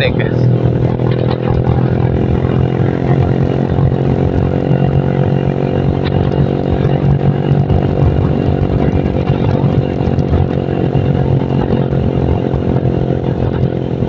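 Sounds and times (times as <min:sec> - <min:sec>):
motorcycle engine running: 0:00.0 - 0:14.0
wind rumbling on microphone: 0:00.0 - 0:14.0.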